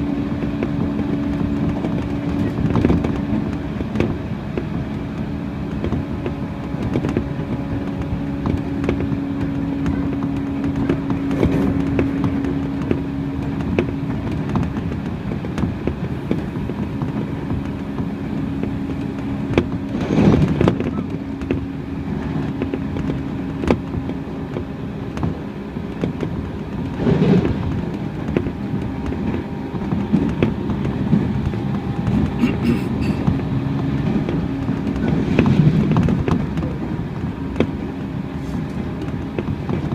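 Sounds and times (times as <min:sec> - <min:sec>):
train interior hum: 0:00.0 - 0:39.9
wheels clicking over rail joints: 0:00.0 - 0:39.9.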